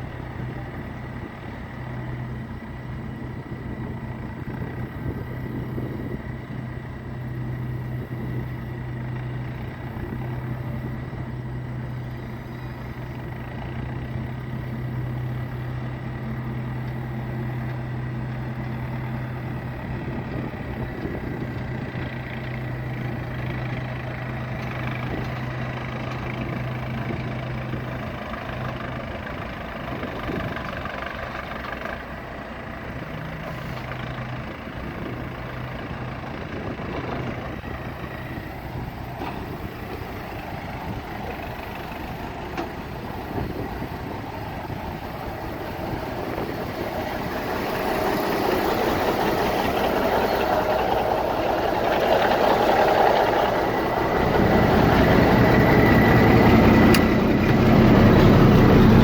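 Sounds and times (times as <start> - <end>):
truck diesel engine humming: 0.0 - 59.0.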